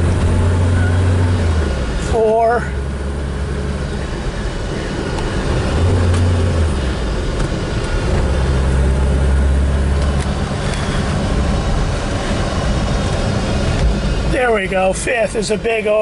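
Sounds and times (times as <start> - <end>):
car engine drone in cabin: 0.0 - 16.0
road noise: 0.0 - 16.0.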